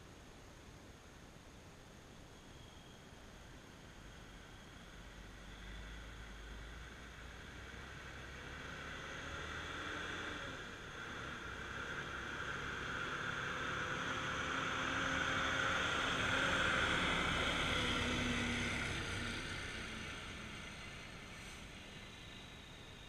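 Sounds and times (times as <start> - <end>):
car driving past: 4.2 - 23.0.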